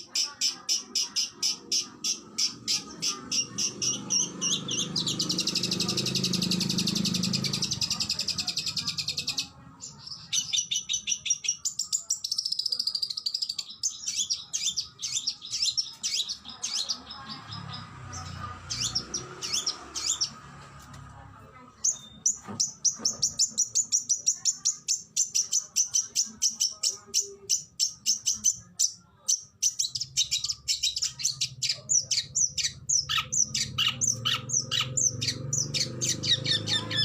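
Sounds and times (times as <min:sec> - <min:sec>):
songbird singing trills and whistles: 0:00.1 - 0:20.4, 0:21.8 - 0:37.0.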